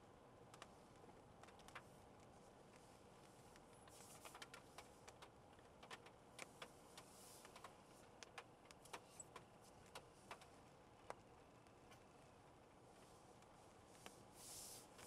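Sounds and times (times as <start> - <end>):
low steady background: 0.0 - 15.0.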